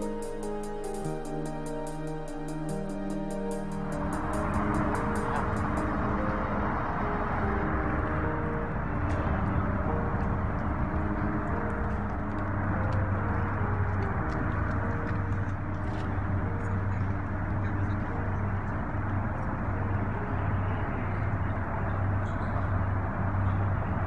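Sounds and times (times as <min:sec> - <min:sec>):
constant low hum: 0:00.0 - 0:24.0
low outdoor rumble: 0:00.0 - 0:24.0.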